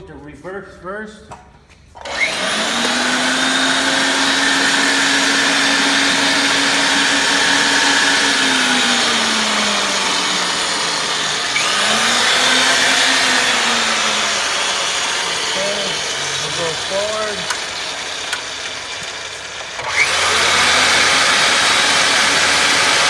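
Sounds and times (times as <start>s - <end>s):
pipe threading machine whining: 2.0s - 23.0s.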